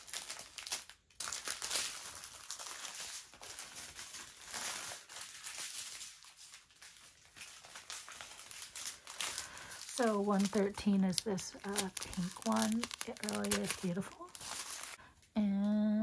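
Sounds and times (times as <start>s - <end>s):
plastic bags crinkling: 0.0s - 15.3s.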